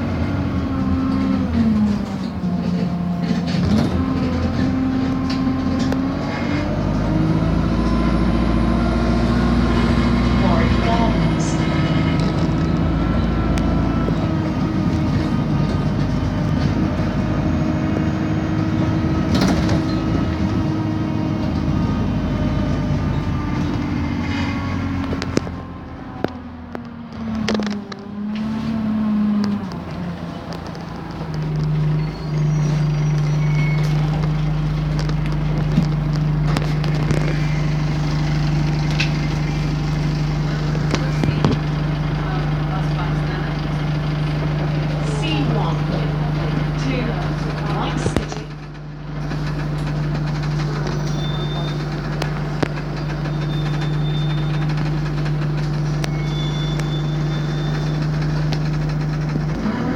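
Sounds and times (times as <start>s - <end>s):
bus engine and road noise: 0.0s - 59.9s.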